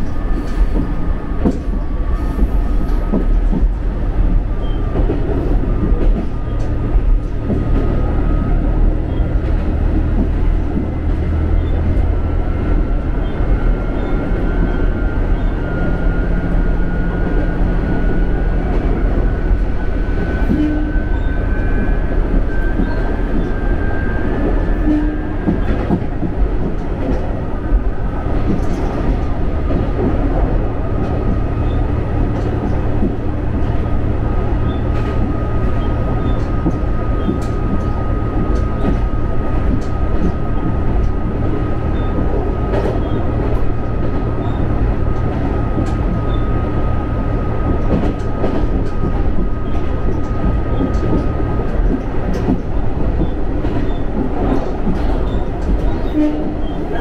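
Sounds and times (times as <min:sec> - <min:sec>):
railcar engine and wheels rumbling: 0:00.0 - 0:57.0.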